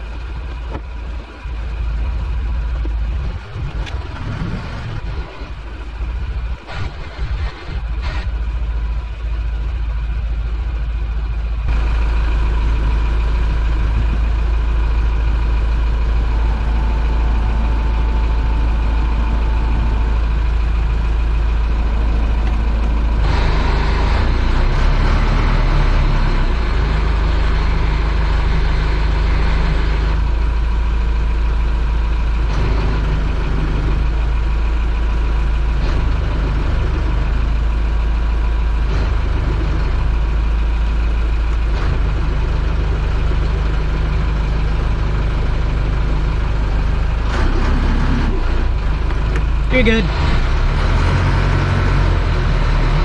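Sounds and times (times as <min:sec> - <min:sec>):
boat engine rumbling: 0:00.0 - 0:53.0.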